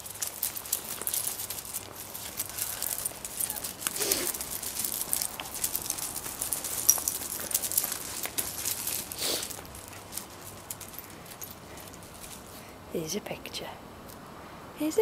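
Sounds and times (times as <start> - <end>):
footsteps crunching on slate chippings: 0.0 - 12.5.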